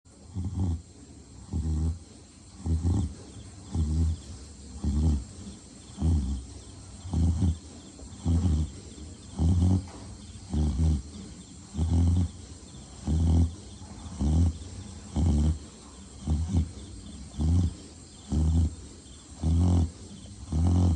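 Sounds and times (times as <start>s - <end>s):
pig snoring: 0.1s - 20.9s.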